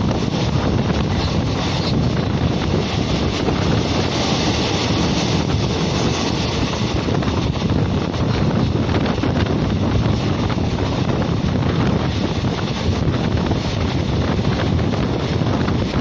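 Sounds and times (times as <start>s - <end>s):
train running on track: 0.0s - 16.0s
wind buffeting microphone: 0.0s - 16.0s.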